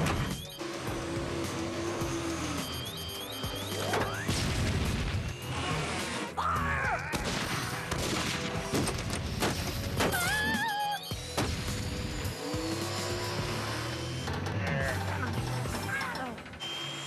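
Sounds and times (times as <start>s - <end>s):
action music: 0.0s - 16.6s.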